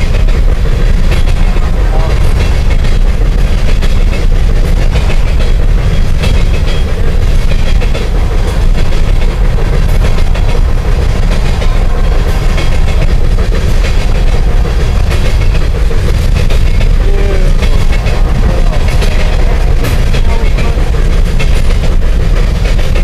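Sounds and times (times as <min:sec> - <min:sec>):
train wheels rumbling on steel bridge: 0:00.0 - 0:23.0.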